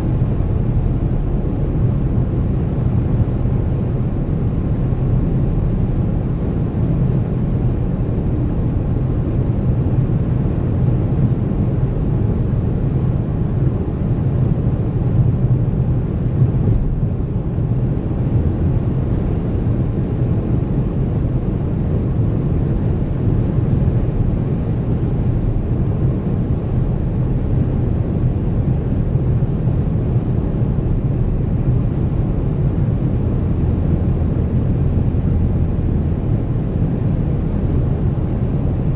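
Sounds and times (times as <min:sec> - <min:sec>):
car road and tyre rumble: 0:00.0 - 0:38.9.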